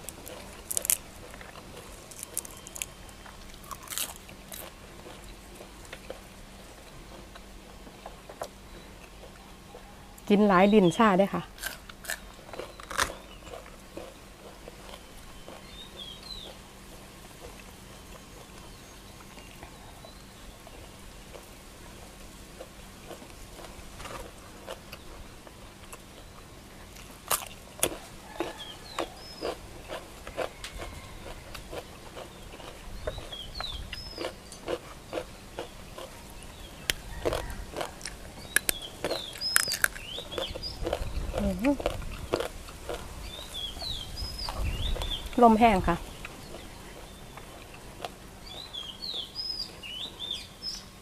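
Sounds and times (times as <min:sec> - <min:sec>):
person chewing: 0:00.0 - 0:09.9, 0:11.5 - 0:18.6, 0:21.3 - 0:45.4, 0:46.1 - 0:48.2.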